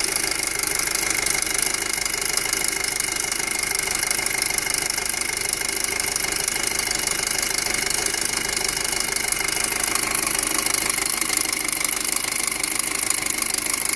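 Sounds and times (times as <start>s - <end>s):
car engine idling with ticking clatter: 0.0s - 13.9s.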